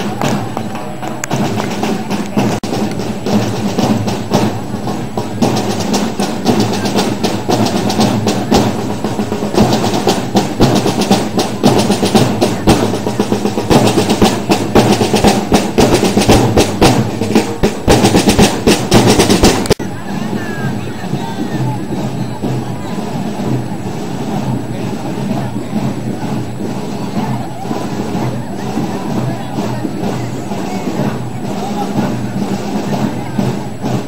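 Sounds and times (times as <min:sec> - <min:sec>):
snare drums beating and rolling: 0:00.0 - 0:34.0.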